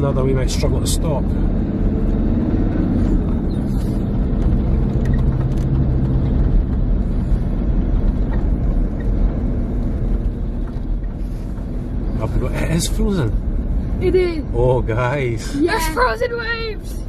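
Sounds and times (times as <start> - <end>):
car engine drone: 0.0 - 17.0
tyre and road noise: 0.0 - 17.0.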